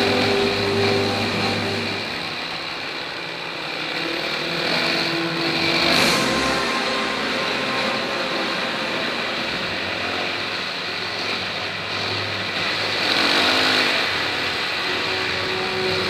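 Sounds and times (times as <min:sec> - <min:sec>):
constant rushing noise: 0:00.0 - 0:16.0
dirt bike engine running: 0:00.0 - 0:16.0.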